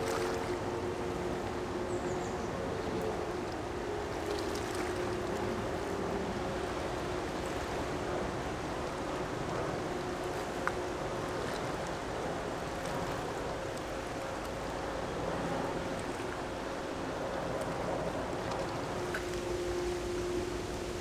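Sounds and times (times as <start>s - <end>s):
boat engines droning: 0.0s - 21.0s
faint steady hum: 0.0s - 21.0s
wind and water noise: 0.0s - 21.0s.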